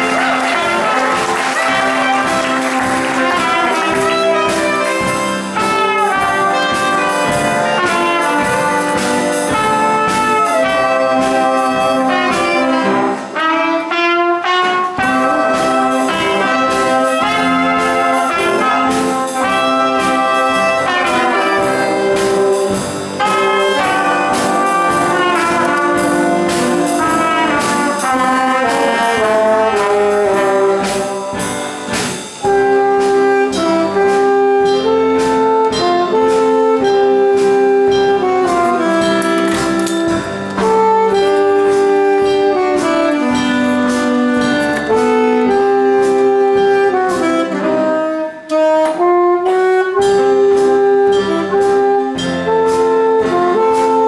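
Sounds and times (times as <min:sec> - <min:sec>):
jazz band playing blues: 0:00.0 - 0:54.0.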